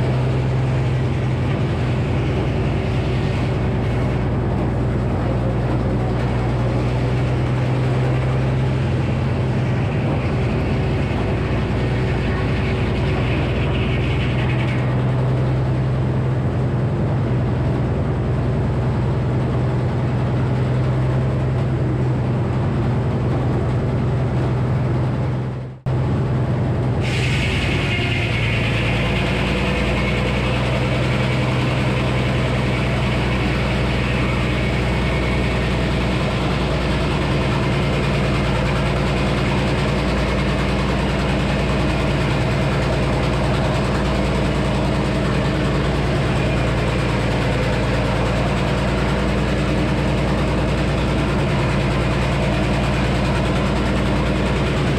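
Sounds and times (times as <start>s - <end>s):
circular saw sawing: 0.0s - 16.4s, 27.0s - 54.9s
sawmill engine drone: 0.0s - 54.9s.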